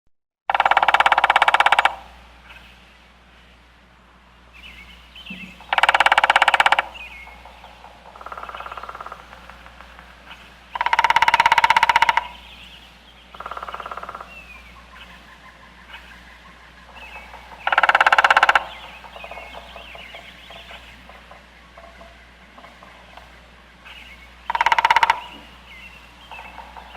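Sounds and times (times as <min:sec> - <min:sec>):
woodpecker drumming on wood: 0:00.5 - 0:02.6, 0:05.2 - 0:26.9
small birds chirping: 0:00.5 - 0:26.9.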